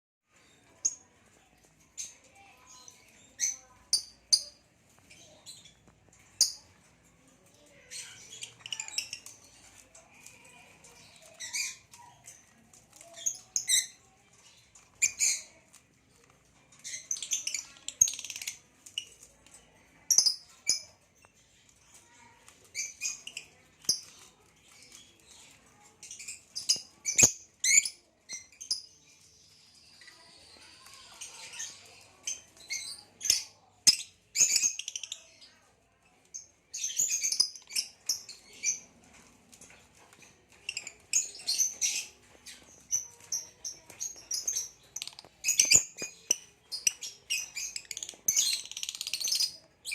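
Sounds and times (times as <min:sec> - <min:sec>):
lovebirds chirping: 0:00.3 - 0:49.9.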